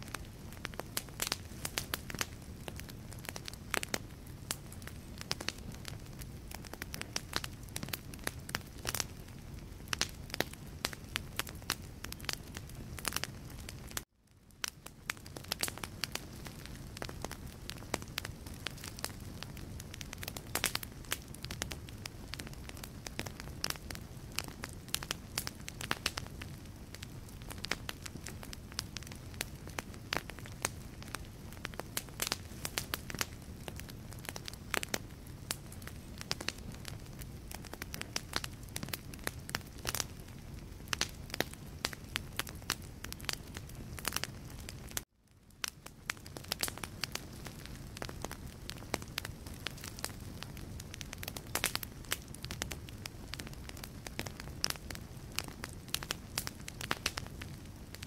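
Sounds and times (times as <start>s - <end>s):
wood fire crackling in fireplace: 0.0s - 58.0s.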